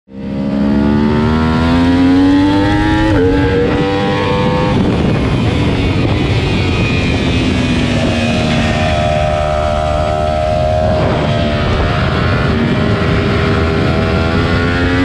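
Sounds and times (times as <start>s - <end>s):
motorcycle engine revving: 0.1s - 15.0s
wind noise: 0.2s - 15.0s.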